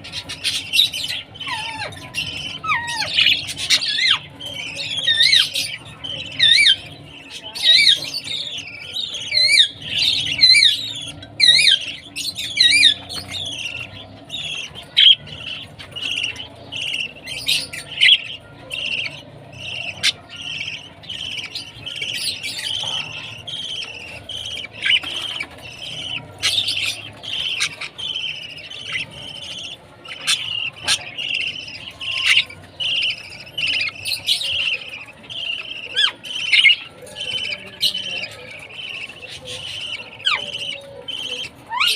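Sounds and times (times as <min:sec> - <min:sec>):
budgie chick chirping: 0:00.0 - 0:41.9.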